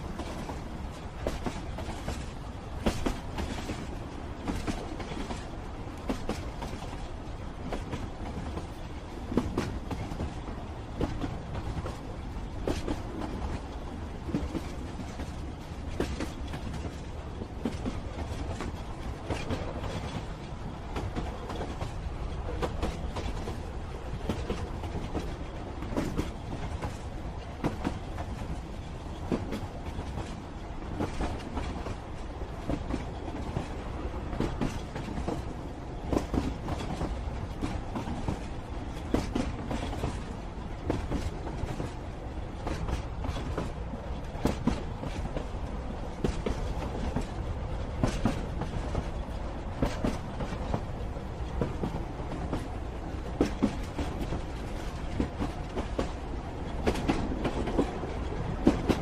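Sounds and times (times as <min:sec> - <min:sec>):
train carriages rumbling: 0:00.0 - 0:59.0
train wheels clacking: 0:00.0 - 0:59.0.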